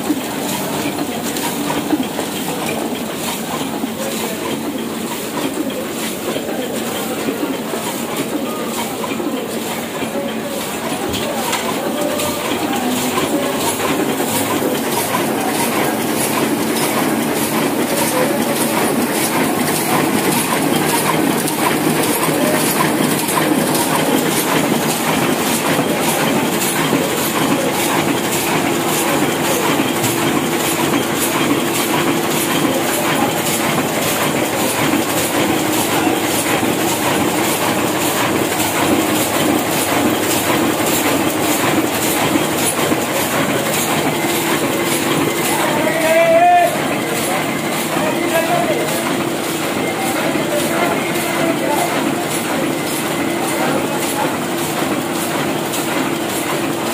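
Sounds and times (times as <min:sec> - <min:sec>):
printing press clattering: 0:00.0 - 0:56.9.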